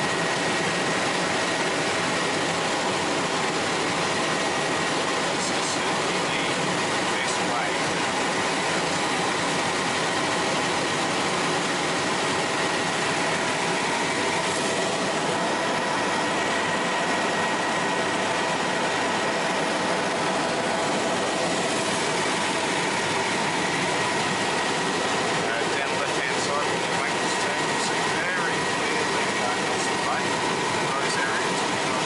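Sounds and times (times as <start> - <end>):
helicopter cabin noise: 0.0 - 32.0
steady whining tones: 0.0 - 32.0.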